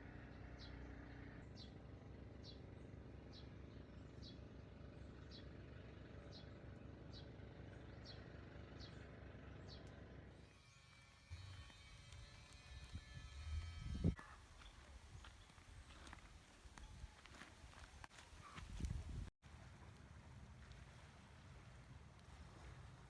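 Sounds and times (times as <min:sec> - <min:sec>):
faint outdoor background: 0:00.0 - 0:23.0.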